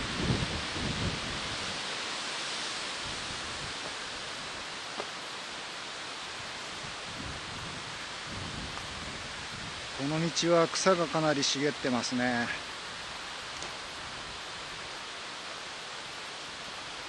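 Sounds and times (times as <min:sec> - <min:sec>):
outdoor noise hiss: 0:00.0 - 0:17.0.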